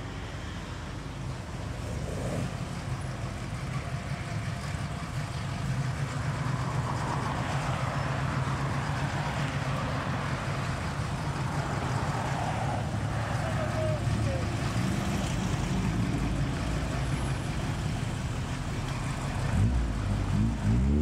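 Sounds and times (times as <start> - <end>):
car engines running: 0.0 - 21.0.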